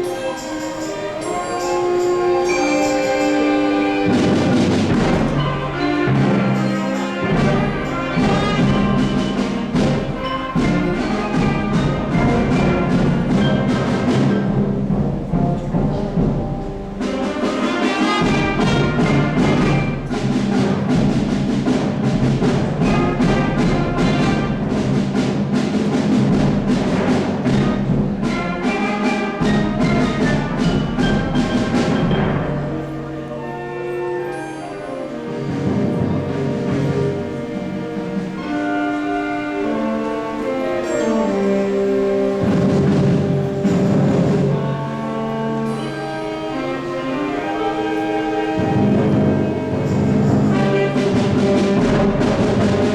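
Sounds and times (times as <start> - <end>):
orchestral music with brass: 0.0 - 52.9.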